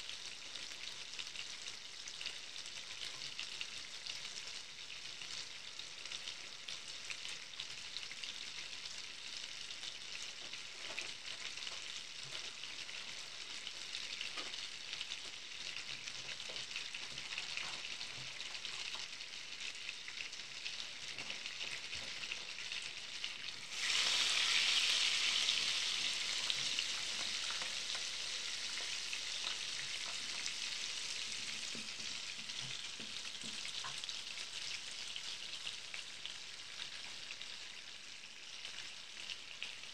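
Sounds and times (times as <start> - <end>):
butter sizzling in a frying pan: 0.0 - 39.9.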